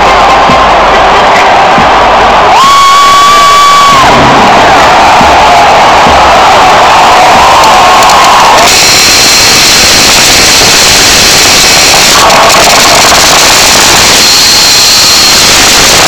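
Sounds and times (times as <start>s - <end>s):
stadium crowd cheering and yelling: 0.0s - 16.0s.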